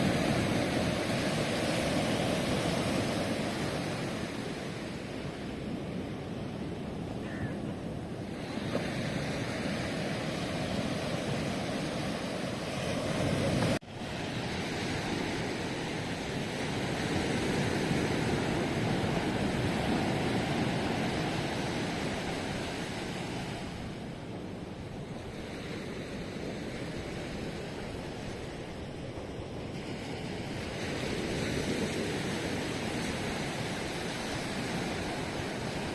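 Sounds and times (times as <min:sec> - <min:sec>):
ocean waves breaking on shore: 0:00.0 - 0:35.9.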